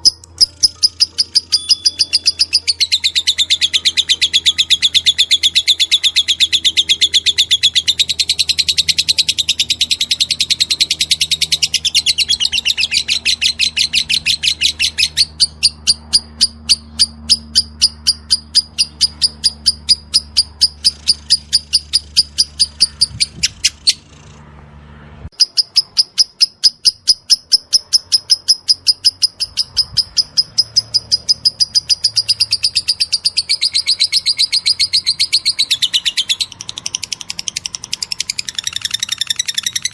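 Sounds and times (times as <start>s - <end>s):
lovebird fast clicky chirps: 0.0s - 24.4s, 25.4s - 39.9s.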